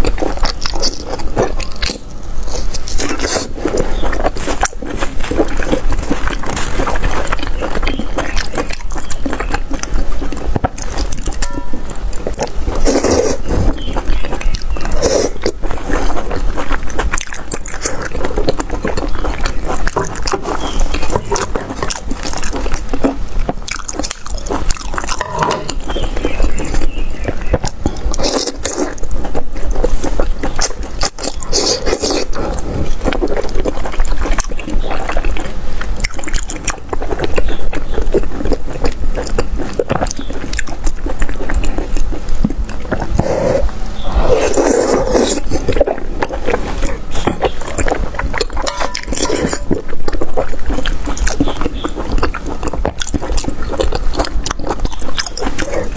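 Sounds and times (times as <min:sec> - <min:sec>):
mouth clicks and smacks: 0:00.0 - 0:55.9
wet chewing and slurping: 0:00.0 - 0:55.9.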